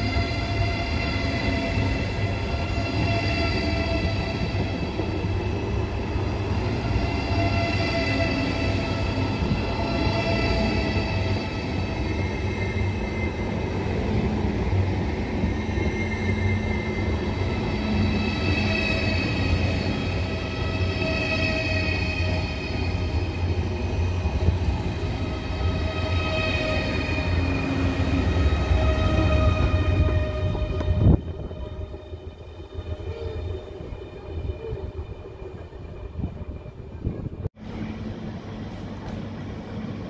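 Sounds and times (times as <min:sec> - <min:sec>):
high train whine: 0:00.0 - 0:40.0.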